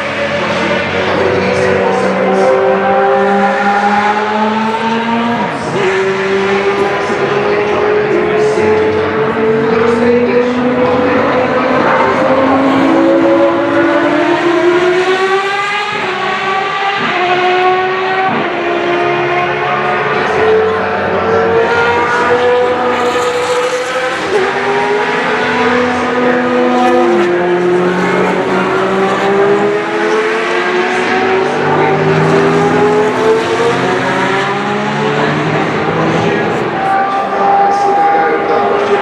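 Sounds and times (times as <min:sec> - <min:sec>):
racing car engine at high revs: 0:00.0 - 0:39.0.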